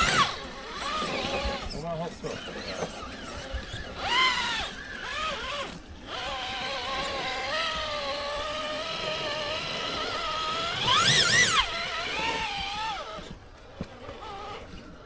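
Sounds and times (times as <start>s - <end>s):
electric motor and gearbox whine: 0.0s - 15.0s.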